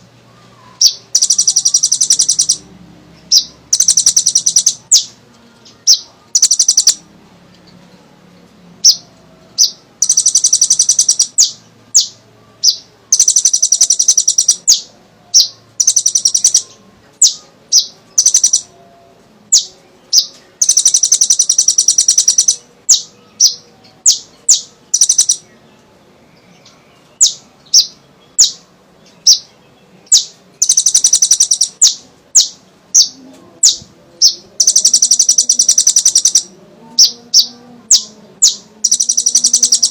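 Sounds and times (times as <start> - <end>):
bird chirping: 0.0 - 39.9
bird trilling: 0.6 - 7.0, 8.8 - 18.7, 19.5 - 25.5, 26.6 - 39.9.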